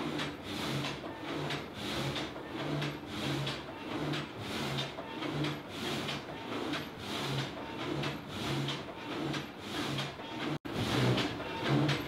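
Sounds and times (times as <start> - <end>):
frame saw blades rasping through log: 0.0 - 12.0.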